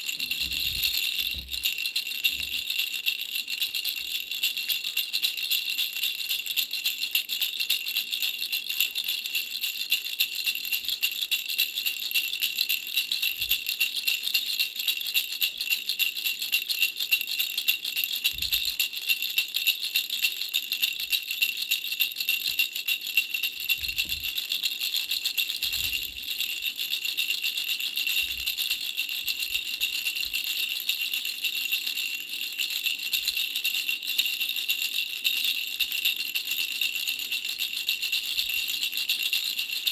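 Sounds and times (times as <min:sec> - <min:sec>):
bell rattle toy jingling: 0:00.0 - 0:39.9.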